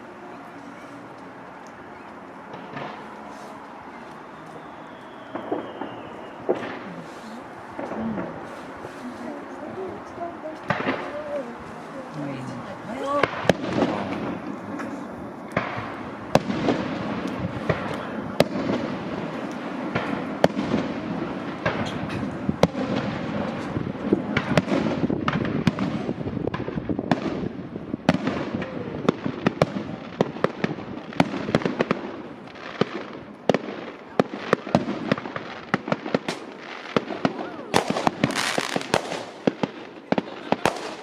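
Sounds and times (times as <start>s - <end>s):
fireworks bangs and crackles: 0.0s - 41.0s
rumbling distant bursts: 0.0s - 41.0s.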